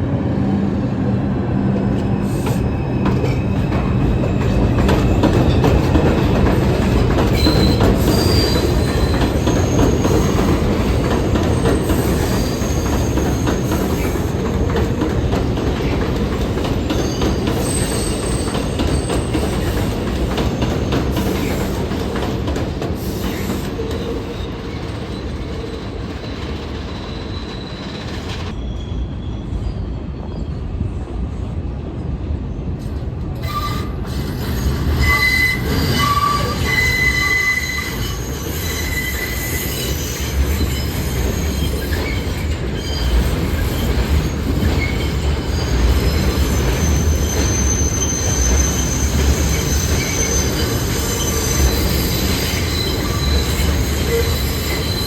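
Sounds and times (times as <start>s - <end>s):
subway train rumbling: 0.0s - 55.0s
train wheels squealing: 1.9s - 22.3s, 22.9s - 31.1s, 33.4s - 55.0s.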